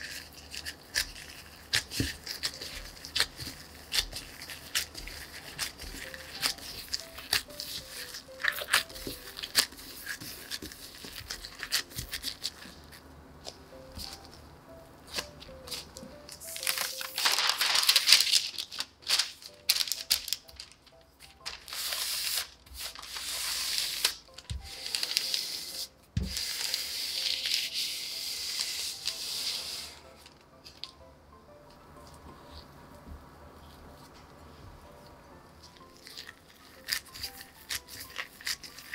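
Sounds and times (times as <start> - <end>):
rolling pin on crinkling paper: 0.0 - 14.4, 15.0 - 30.9, 35.6 - 38.9
soft background music: 0.0 - 38.9.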